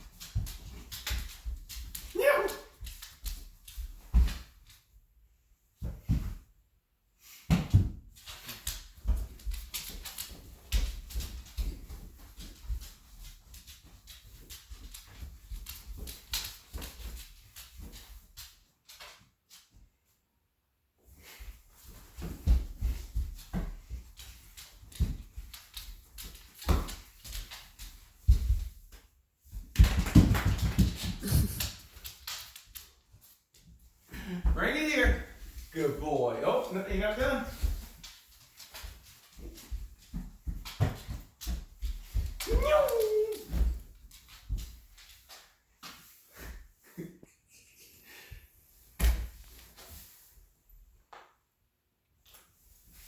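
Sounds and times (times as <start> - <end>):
dog paws thumping on floor: 0.0 - 5.1, 5.7 - 6.6, 7.3 - 19.8, 21.0 - 46.6, 48.8 - 50.3.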